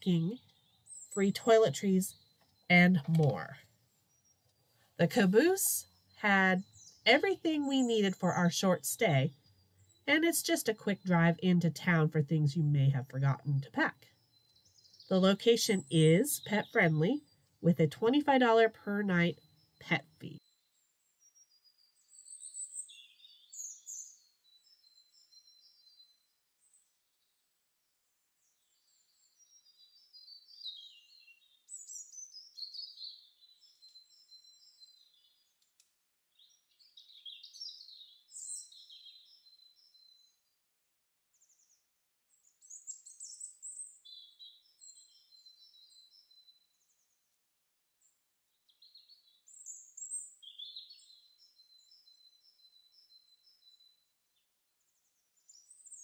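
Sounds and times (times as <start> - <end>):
small birds chirping and trilling: 0.0 - 40.6, 41.3 - 56.0.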